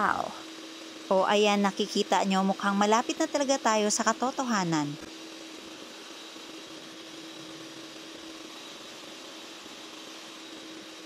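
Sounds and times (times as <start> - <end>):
electric hand mixer whirring: 0.0 - 11.0.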